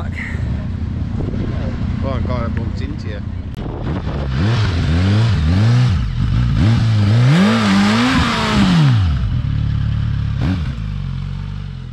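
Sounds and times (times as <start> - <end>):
motorcycle engine revving: 0.6 - 11.9.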